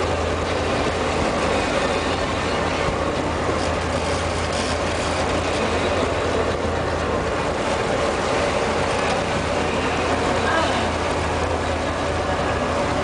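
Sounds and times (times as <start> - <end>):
boat engine drone: 0.0 - 13.0
churning wake rushing: 0.0 - 13.0.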